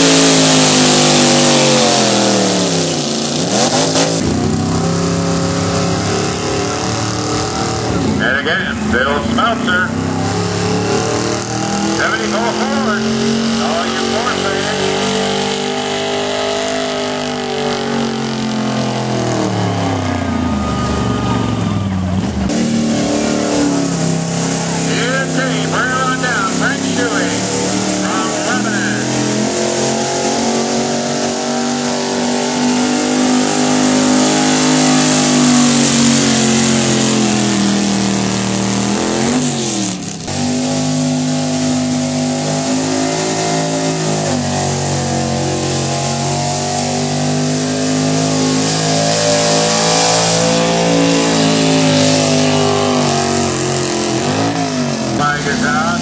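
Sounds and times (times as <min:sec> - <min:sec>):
truck engine revving under load: 0:00.0 - 0:56.0.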